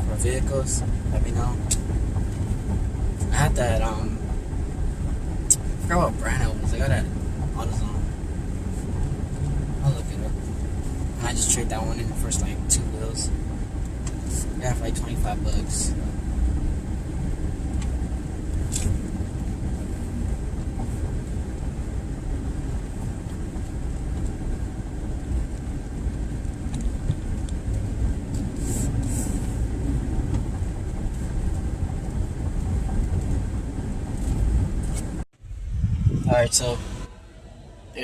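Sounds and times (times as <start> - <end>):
road and engine rumble in cab: 0.0 - 38.0.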